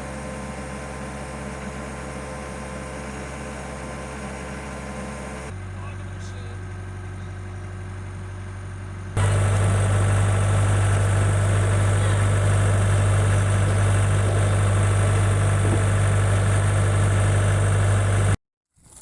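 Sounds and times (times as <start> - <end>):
engine idling: 0.0 - 18.4.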